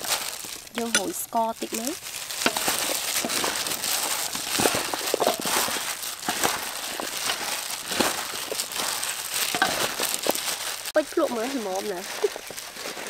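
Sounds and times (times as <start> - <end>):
plastic glove crinkling: 0.0 - 13.0
wet salad rustling in steel bowl: 0.0 - 13.0.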